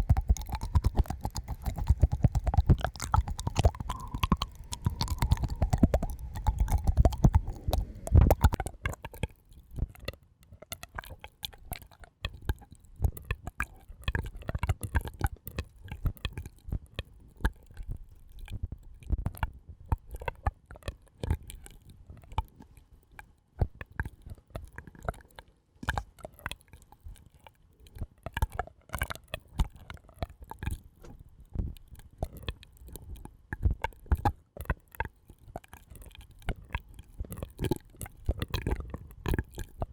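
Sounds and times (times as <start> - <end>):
soft clicks and crackles: 0.0 - 39.9.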